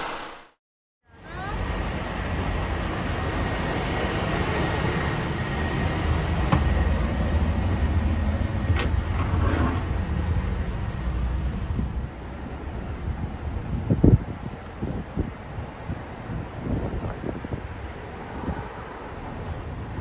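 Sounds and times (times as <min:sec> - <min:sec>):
diesel bus engine rumble: 0:01.2 - 0:20.0.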